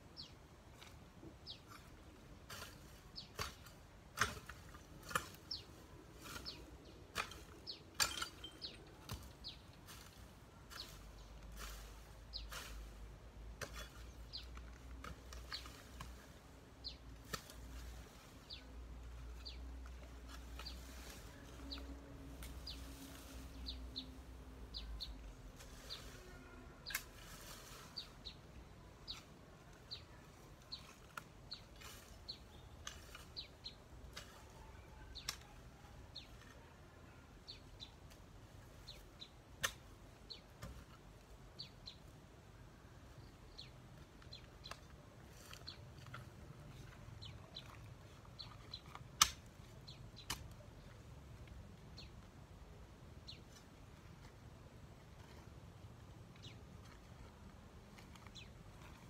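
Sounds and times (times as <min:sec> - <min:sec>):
small birds chirping: 0:00.1 - 0:59.0
garden tool clicking and scraping brush: 0:00.2 - 0:42.1, 0:43.1 - 0:52.3, 0:53.1 - 0:59.0.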